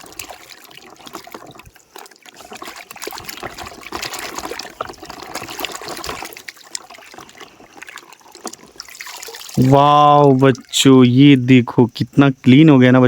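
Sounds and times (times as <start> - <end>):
water splashing and trickling: 0.0 - 11.8.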